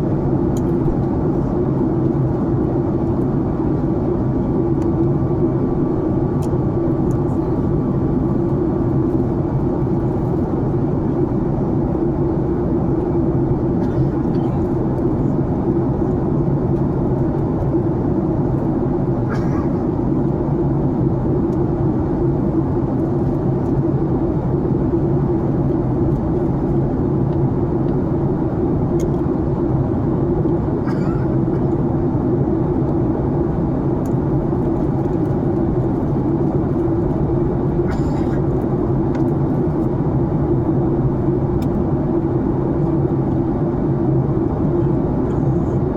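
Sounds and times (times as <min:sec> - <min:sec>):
airliner cabin drone: 0:00.0 - 0:45.9.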